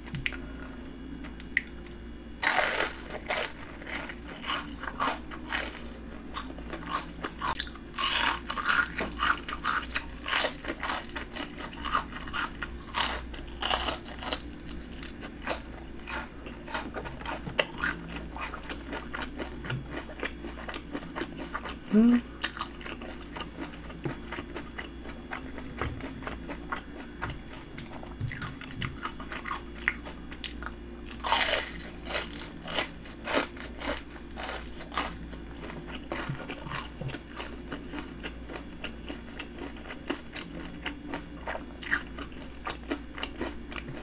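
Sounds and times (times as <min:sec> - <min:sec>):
crunching and chewing fried food: 0:00.0 - 0:44.0.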